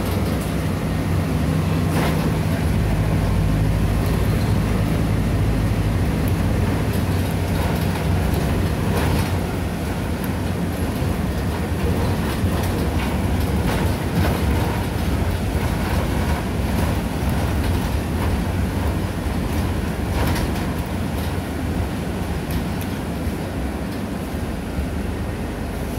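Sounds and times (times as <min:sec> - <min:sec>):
light rattles and clacks: 0:00.0 - 0:00.8, 0:01.8 - 0:24.2
vehicle rumble from inside cabin: 0:00.0 - 0:25.9.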